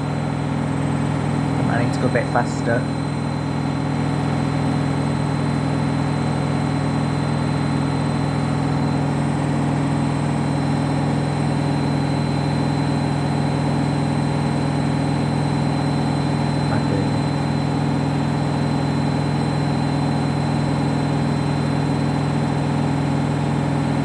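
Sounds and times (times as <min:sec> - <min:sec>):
washing machine spinning: 0:00.0 - 0:24.0.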